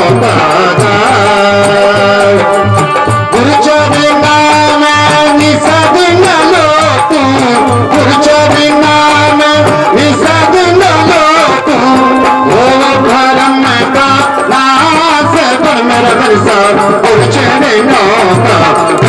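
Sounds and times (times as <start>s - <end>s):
devotional instrumental melody: 0.0s - 19.0s
steady drum beat: 0.0s - 19.0s.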